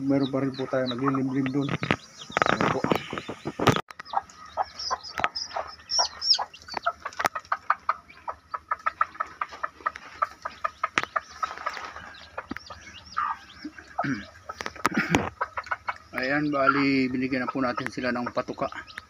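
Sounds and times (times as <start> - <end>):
chicks peeping: 0.0 - 19.0
hen clucking: 0.0 - 19.0.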